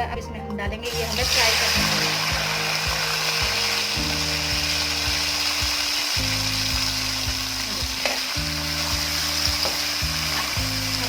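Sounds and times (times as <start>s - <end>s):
background music with light beat: 0.0s - 11.0s
vegetables sizzling in hot oil: 0.9s - 11.0s.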